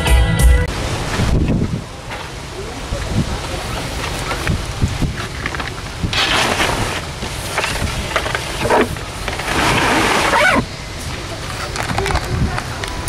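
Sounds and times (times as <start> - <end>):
surfboard scraping and rubbing: 1.0 - 13.0.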